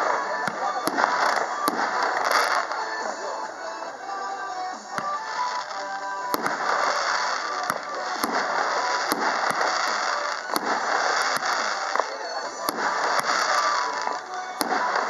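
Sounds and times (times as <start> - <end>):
firework bangs: 0.0 - 3.4, 4.7 - 15.0
fireworks crackling: 0.0 - 15.0.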